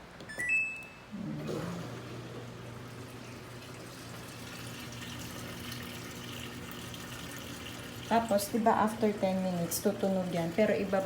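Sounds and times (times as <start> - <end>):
water running into washing machine: 1.4 - 11.0.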